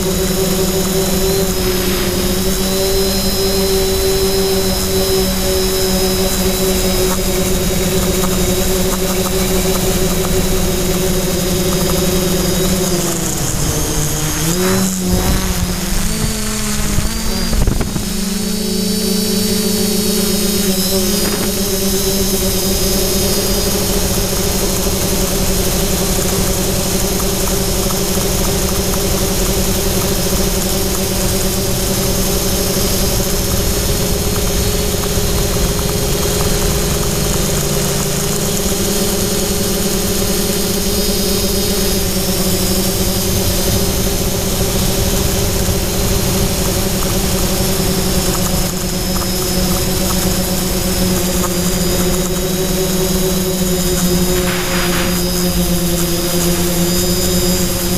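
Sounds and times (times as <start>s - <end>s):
drone propellers buzzing: 0.0s - 57.9s.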